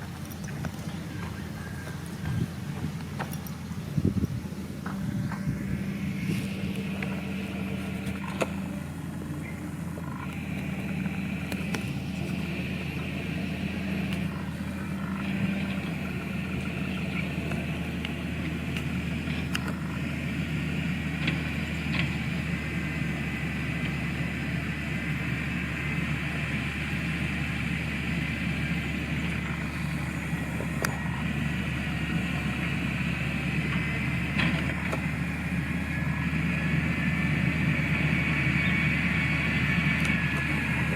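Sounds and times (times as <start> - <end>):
diesel engine hum: 0.0 - 40.9.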